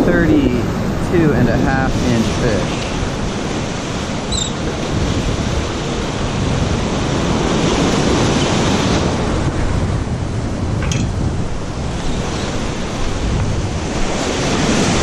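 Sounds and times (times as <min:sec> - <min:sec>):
ocean waves washing: 0:00.0 - 0:15.0
wind buffeting microphone: 0:00.0 - 0:15.0.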